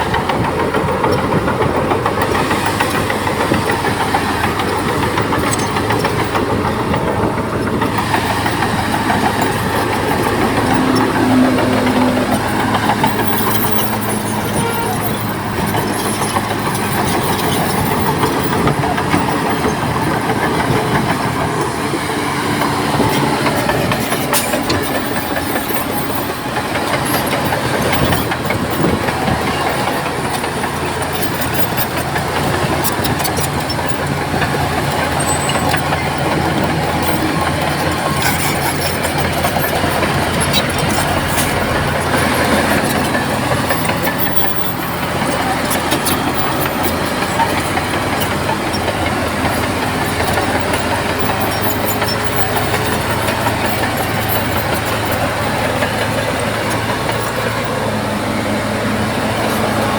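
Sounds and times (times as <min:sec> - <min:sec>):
diesel engine running: 0:00.0 - 0:59.9
steel tracks clanking: 0:00.0 - 0:59.9.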